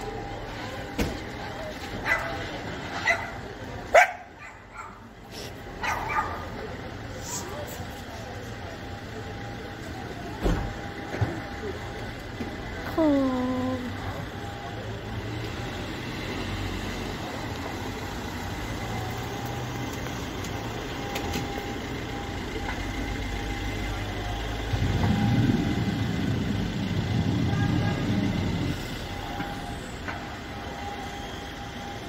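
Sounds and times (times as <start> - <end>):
large fire roaring: 0.0 - 32.0.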